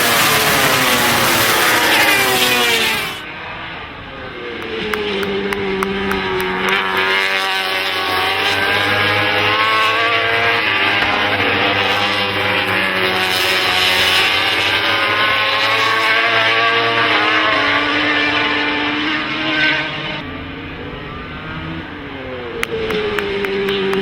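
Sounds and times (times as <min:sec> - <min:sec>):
racing motorcycle engines: 0:00.0 - 0:24.0.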